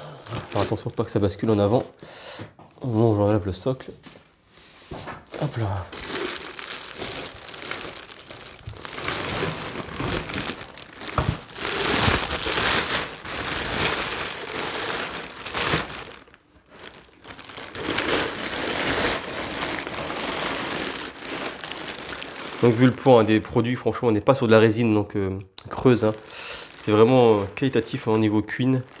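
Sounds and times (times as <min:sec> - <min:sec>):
packaging crinkling: 0:00.0 - 0:01.9, 0:05.2 - 0:23.5, 0:25.7 - 0:29.0.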